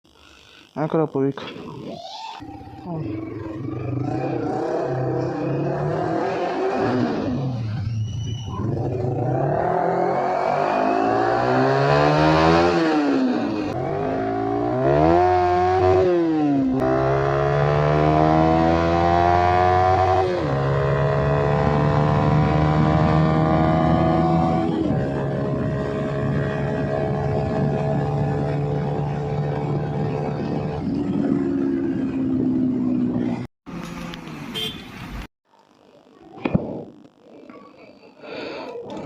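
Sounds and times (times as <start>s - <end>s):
motorcycle engine revving: 2.6s - 34.8s.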